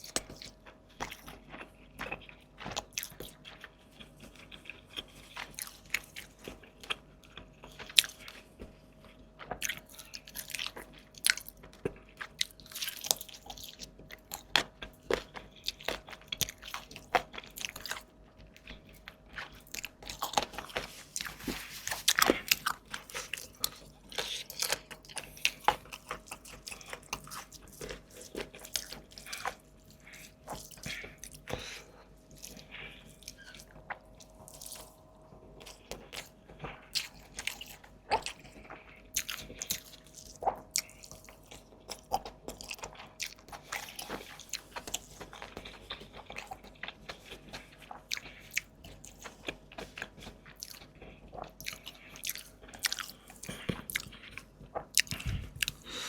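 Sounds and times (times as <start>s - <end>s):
food crunching: 0.0s - 56.0s
wet chewing and mouth smacks: 0.0s - 56.0s.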